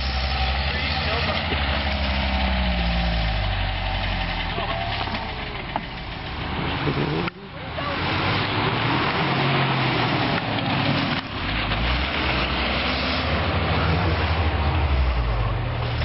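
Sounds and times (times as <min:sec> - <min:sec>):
car engine under load: 0:00.0 - 0:16.0.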